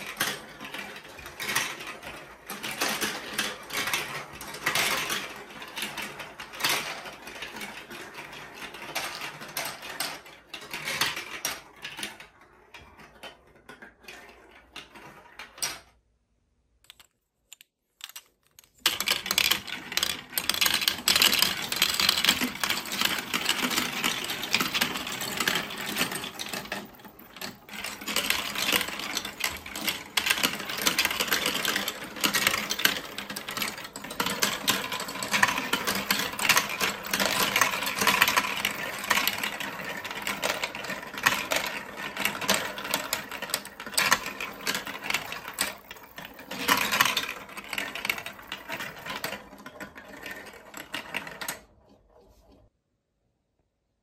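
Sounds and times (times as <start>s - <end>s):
marbles clattering through plastic tracks: 0.0s - 16.0s, 16.8s - 52.4s.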